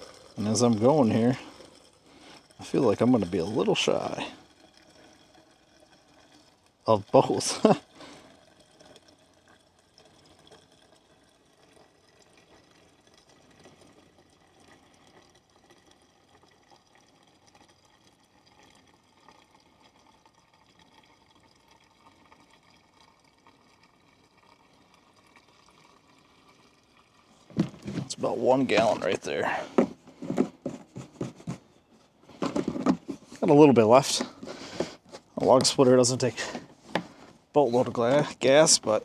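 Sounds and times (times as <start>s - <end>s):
liquid pouring into container: 0.0s - 39.0s.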